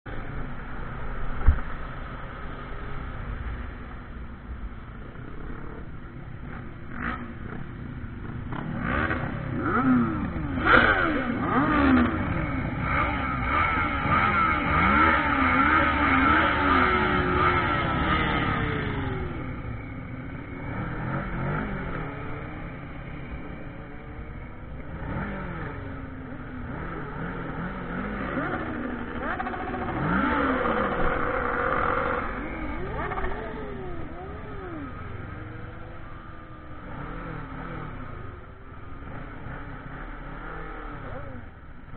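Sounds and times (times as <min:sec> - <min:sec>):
motorcycle engine revving: 0:05.0 - 0:41.9.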